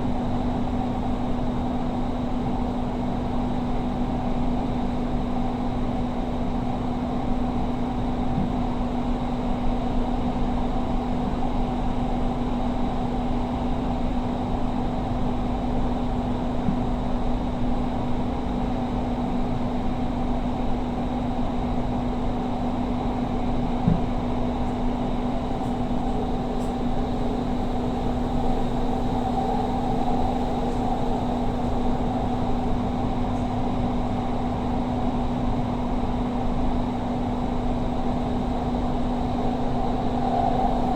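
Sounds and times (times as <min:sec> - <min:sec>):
train cabin rumble and hum: 0:00.0 - 0:40.9.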